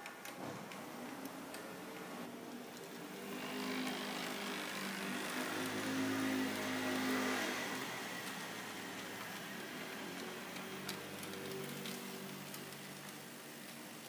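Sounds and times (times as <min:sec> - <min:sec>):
model tram motor hum: 0:00.2 - 0:14.0.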